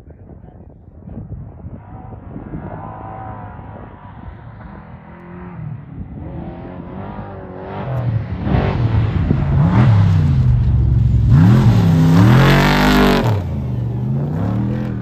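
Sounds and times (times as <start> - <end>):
truck engine revving past: 1.9 - 15.0.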